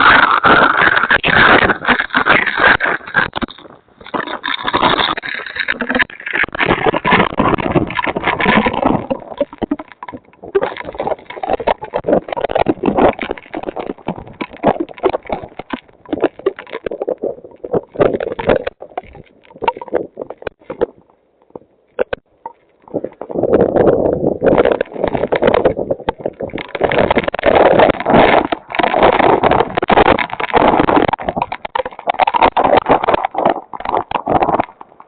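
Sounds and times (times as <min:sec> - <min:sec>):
crackles and knocks: 0:00.0 - 0:35.0
wind gusting on microphone: 0:00.0 - 0:35.0.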